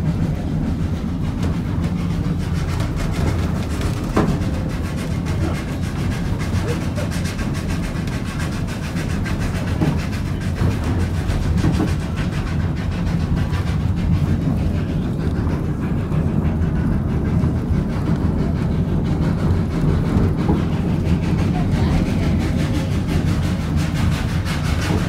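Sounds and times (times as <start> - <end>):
train cars rumbling on rails: 0.0 - 25.0.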